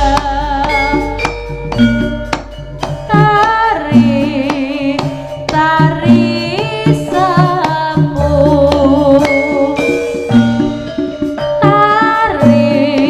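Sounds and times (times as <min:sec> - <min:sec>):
bass notes: 0:00.0 - 0:13.0
drums: 0:00.0 - 0:13.0
person singing wavering melody: 0:00.0 - 0:13.0
pitched percussion: 0:00.0 - 0:13.0.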